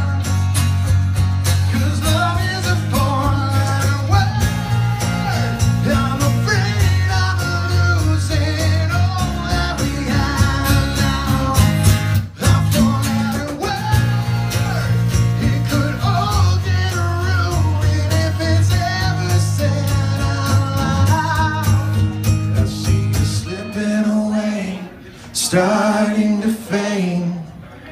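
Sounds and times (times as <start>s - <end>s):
man singing into a microphone: 0.0s - 0.5s, 1.6s - 27.8s
bass guitar: 0.0s - 24.8s
strummed acoustic guitars: 0.0s - 27.9s.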